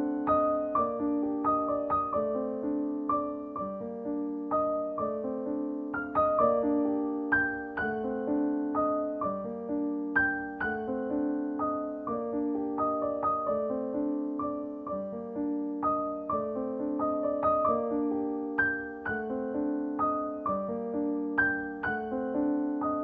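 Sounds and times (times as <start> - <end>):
soft piano music: 0.0 - 23.0.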